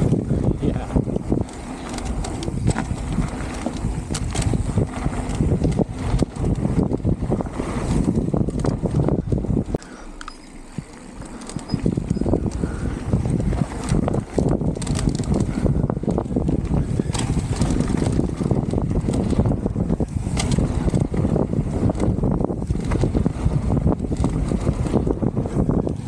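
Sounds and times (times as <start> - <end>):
bike rattling over bumps: 0.0 - 26.0
bike tyres crunching on gravel: 0.0 - 26.0
wind buffeting microphone: 0.0 - 26.0.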